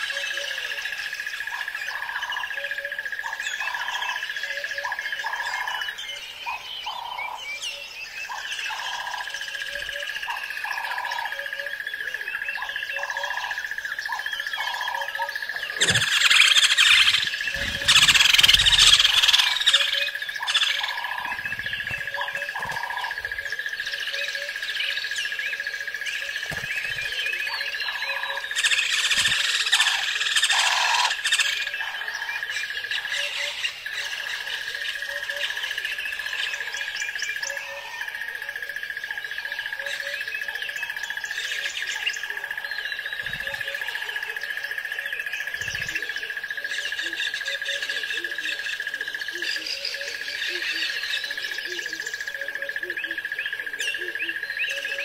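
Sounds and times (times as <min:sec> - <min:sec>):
birds chirping and calling: 0:00.0 - 0:55.0.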